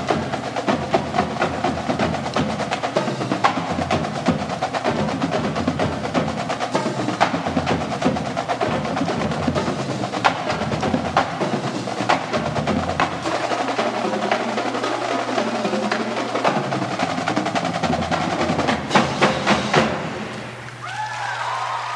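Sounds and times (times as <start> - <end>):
marching drumline playing: 0.0 - 20.6.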